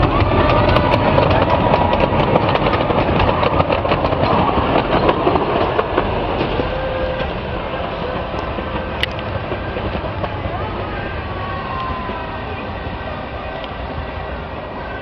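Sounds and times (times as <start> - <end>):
train rumble: 0.0 - 15.0
wheels clicking over rail joints: 0.0 - 15.0.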